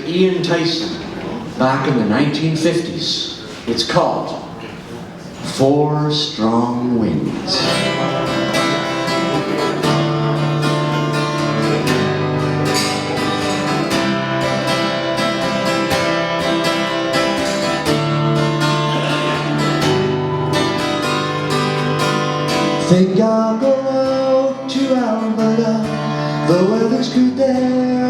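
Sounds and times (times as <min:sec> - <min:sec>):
acoustic guitar strumming: 0:05.4 - 0:28.0.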